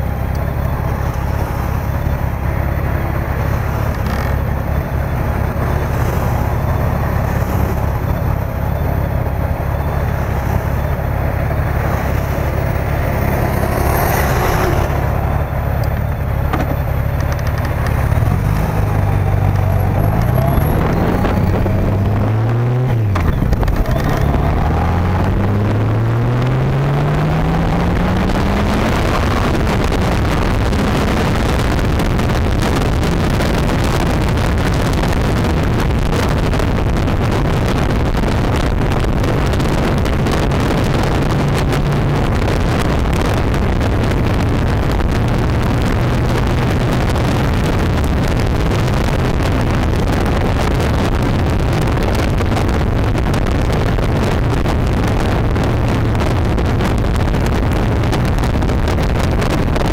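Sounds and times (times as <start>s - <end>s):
motorcycle engine accelerating: 0.0s - 59.9s
wind noise on microphone: 0.0s - 59.9s.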